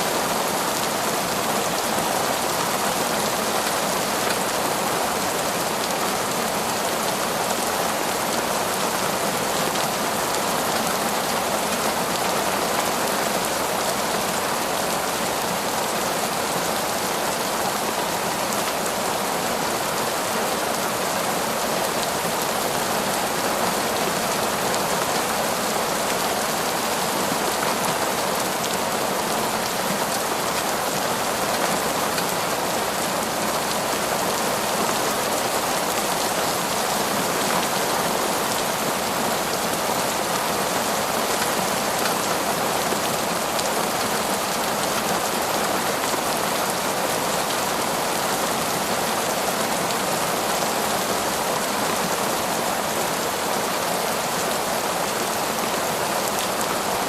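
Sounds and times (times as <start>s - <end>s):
torrential rain on foliage: 0.0s - 57.0s.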